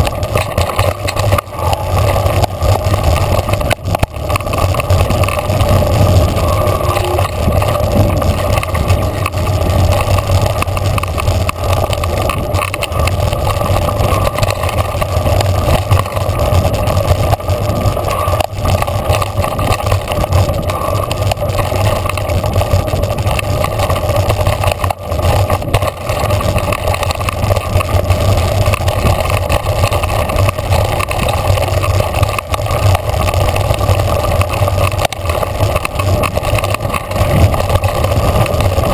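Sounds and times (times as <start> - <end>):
bike rattling over rough ground: 0.0 - 38.9
tyres rolling over dirt: 0.0 - 38.9
wind rush on microphone: 0.0 - 38.9.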